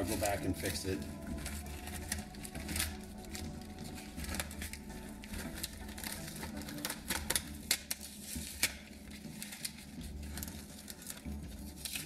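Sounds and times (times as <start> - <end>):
masking tape peeling: 0.2 - 12.0.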